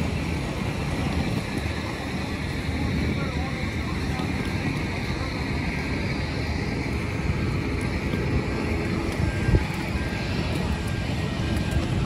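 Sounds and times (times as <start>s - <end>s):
aircraft and ground equipment rumble: 0.0s - 12.0s
wind buffeting microphone: 0.0s - 12.0s.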